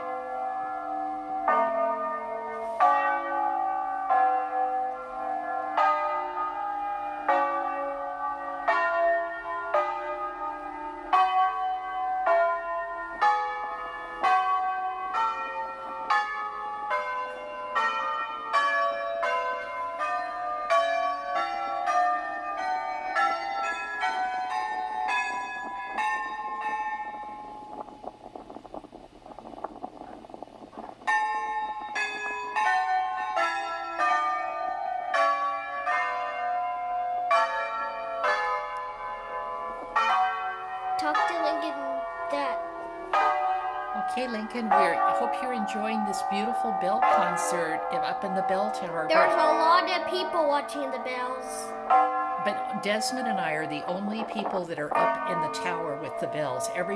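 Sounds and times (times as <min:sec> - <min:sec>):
tower bells playing melody: 0:00.0 - 0:56.9.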